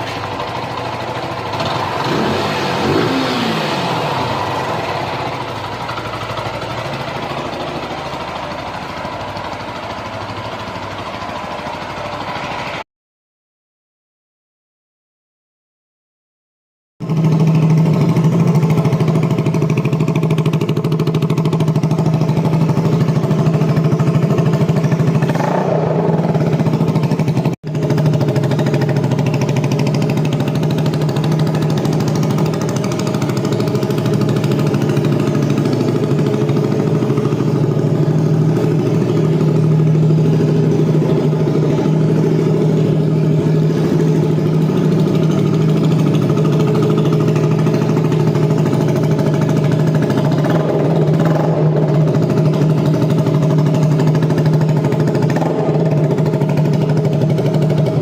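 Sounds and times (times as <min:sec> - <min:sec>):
motorcycle idling: 0:00.0 - 0:12.8, 0:17.0 - 0:58.0.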